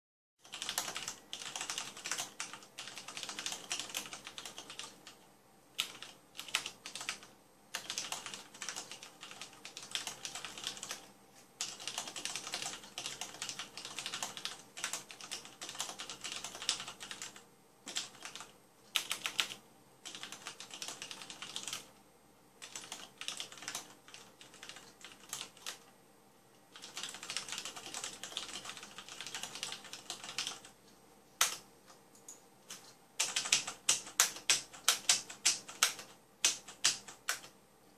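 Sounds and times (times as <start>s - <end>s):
typing on mechanical keyboard: 0.4s - 5.2s, 5.8s - 21.9s, 22.6s - 25.8s, 26.7s - 30.7s, 31.4s - 31.6s, 32.2s - 37.5s.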